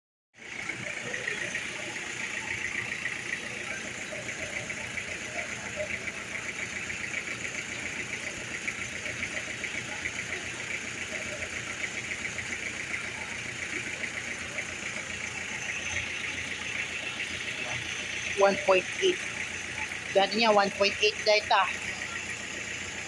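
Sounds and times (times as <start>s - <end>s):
car engine idling: 0.4s - 23.0s
fast even engine ticking: 0.4s - 23.0s.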